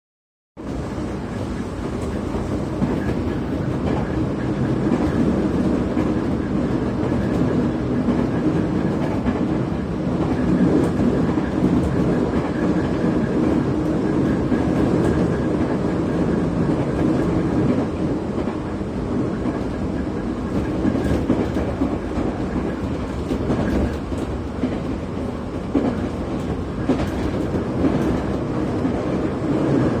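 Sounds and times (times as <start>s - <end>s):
train wheels rumbling on rails: 0.6s - 30.0s.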